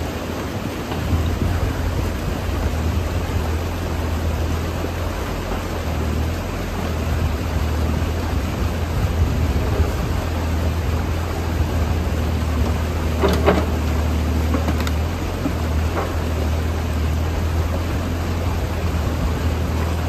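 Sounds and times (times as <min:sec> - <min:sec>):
excavator diesel engine running: 0:00.0 - 0:20.0
water rushing: 0:00.0 - 0:20.0.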